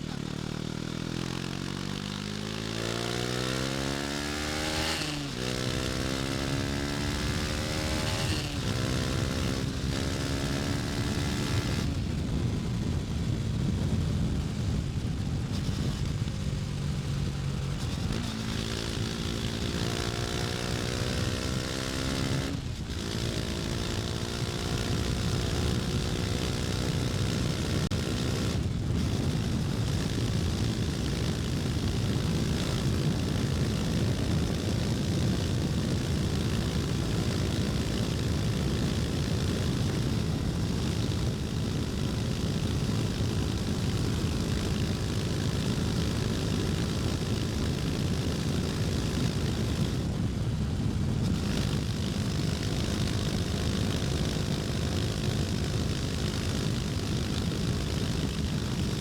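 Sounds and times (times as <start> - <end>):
motorcycle engine accelerating: 0.0 - 59.0
wind noise: 2.4 - 59.0.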